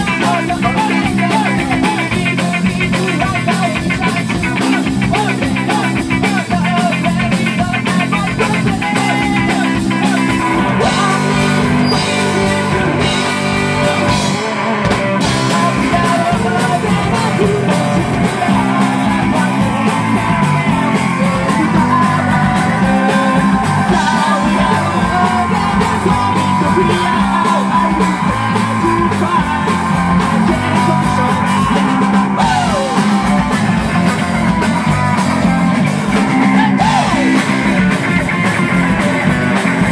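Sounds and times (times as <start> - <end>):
person singing: 0.0 - 38.1
live rock band playing: 0.0 - 39.9.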